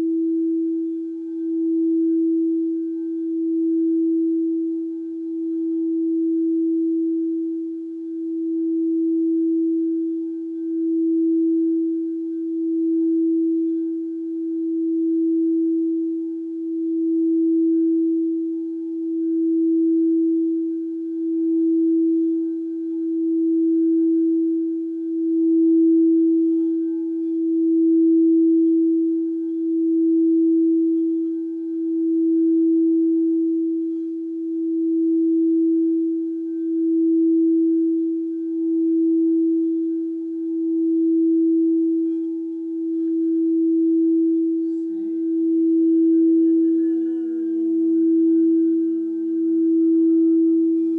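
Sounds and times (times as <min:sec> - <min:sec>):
crystal singing bowl tone: 0:00.0 - 0:50.9.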